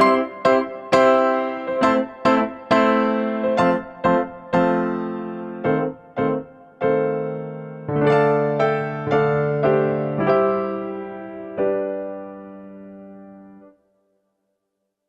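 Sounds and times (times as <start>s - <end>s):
electric piano slow melody: 0.0s - 13.8s.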